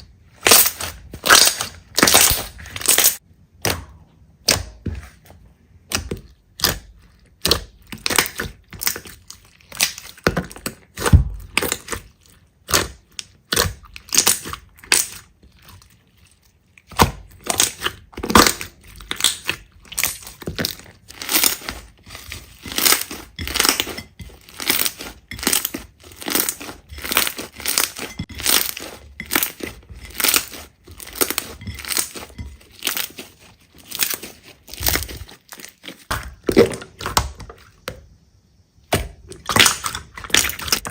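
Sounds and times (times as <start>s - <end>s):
slime crackling and popping: 0.4s - 3.8s, 5.9s - 16.2s, 16.8s - 37.3s.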